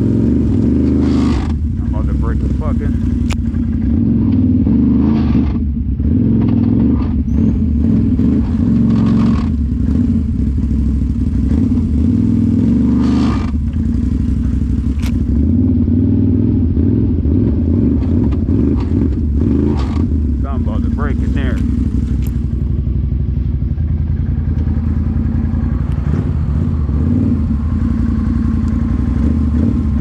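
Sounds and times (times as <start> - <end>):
engine running under throttle: 0.0 - 30.0.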